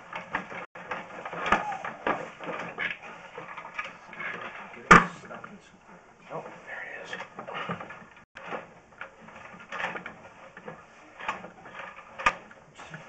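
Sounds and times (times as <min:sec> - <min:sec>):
cable scraping and clattering: 0:00.0 - 0:13.0.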